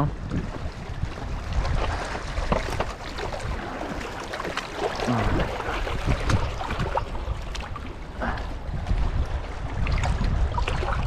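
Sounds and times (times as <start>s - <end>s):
water lapping against rocks: 0.0s - 11.0s
wind buffeting microphone: 0.0s - 11.0s.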